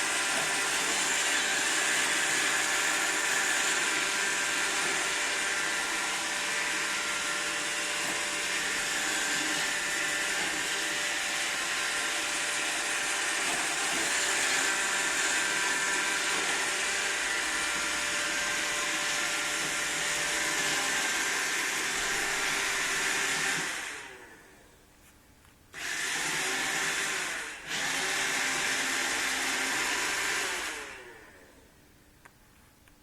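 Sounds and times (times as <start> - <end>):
robot vacuum motor running: 0.0 - 24.3, 25.8 - 31.4.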